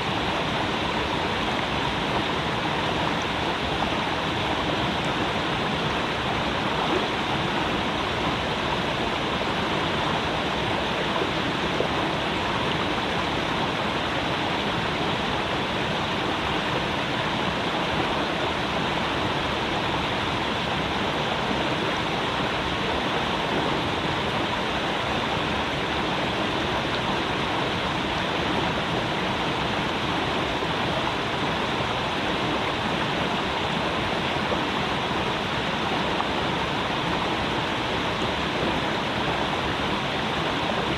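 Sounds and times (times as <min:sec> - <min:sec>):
creek water flowing over rocks: 0:00.0 - 0:40.9.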